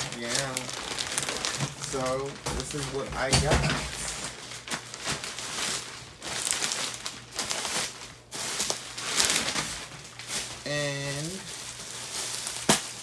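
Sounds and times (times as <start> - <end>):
packaging wrap crinkling: 0.0 - 13.0.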